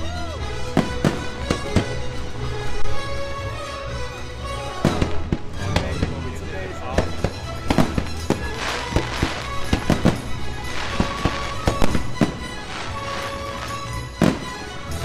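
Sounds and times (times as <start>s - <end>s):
firework bursts and crackling: 0.0s - 15.0s
show music: 0.0s - 15.0s.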